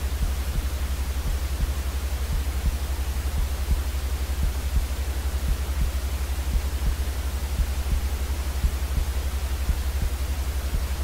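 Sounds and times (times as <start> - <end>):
white noise hiss: 0.0 - 11.0.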